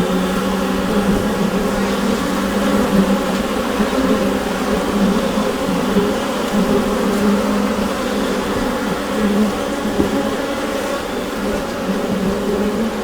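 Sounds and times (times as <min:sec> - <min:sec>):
honeybees buzzing in hive: 0:00.0 - 0:13.0.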